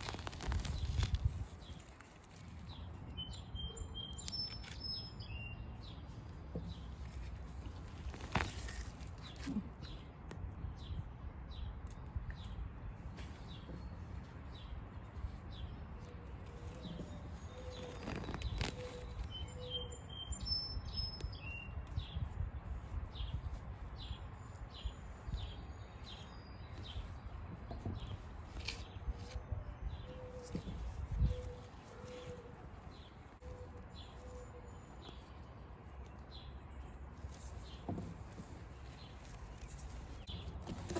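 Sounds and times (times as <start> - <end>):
small bird chirping: 0.0 - 10.1, 13.2 - 40.9.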